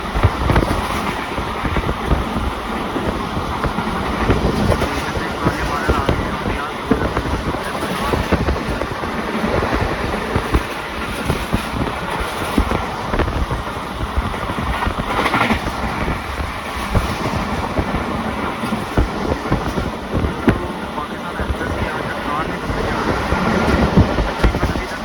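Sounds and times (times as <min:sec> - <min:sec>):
train wheels clattering over rail joints: 0:00.0 - 0:25.0.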